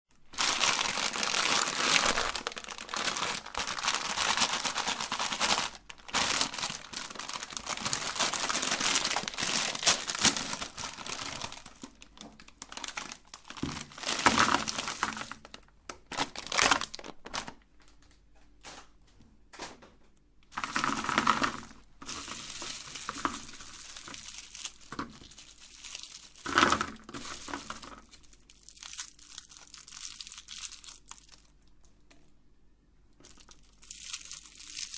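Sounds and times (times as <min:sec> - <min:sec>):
plastic wrappers crinkling: 0:00.1 - 0:19.0, 0:20.5 - 0:32.1, 0:33.2 - 0:34.9.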